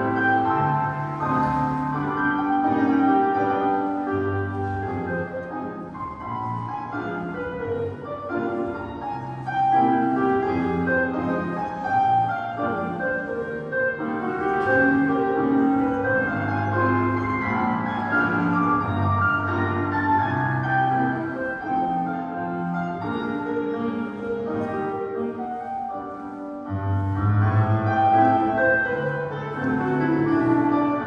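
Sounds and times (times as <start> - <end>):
classical piano music: 0.0 - 31.0.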